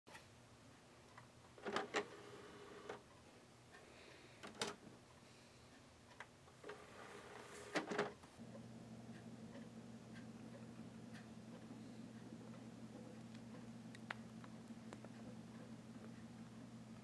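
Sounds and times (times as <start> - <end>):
low steady hum: 0.1 - 17.0
disc tray whirring: 1.0 - 3.6, 5.9 - 17.0.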